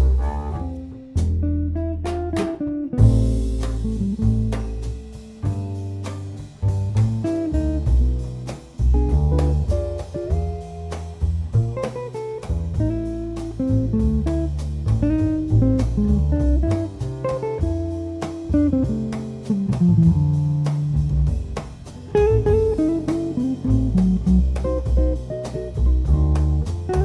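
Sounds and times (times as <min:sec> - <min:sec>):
drums light strokes: 0:00.0 - 0:27.0
electric guitar melody: 0:00.0 - 0:27.0
walking double bass: 0:00.0 - 0:27.0.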